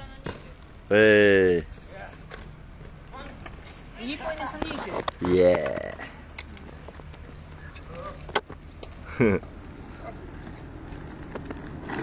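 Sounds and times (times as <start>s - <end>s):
skate wheels rolling on asphalt: 0.0s - 12.0s.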